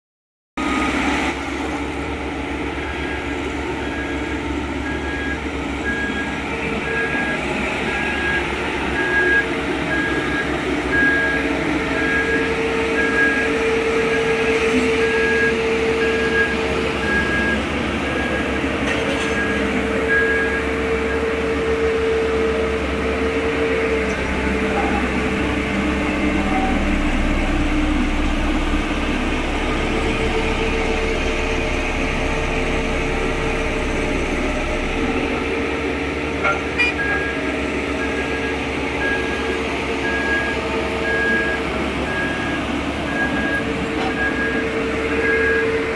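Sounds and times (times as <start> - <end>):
diesel engine running: 0.6 - 45.9
reversing alarm beeping: 2.8 - 22.5, 24.1 - 35.6, 36.4 - 45.9.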